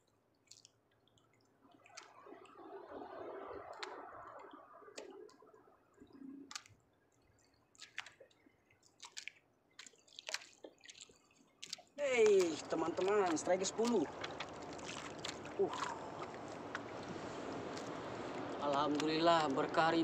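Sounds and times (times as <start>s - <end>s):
soft splashing trickle: 0.0s - 20.0s
water drips: 0.5s - 20.0s.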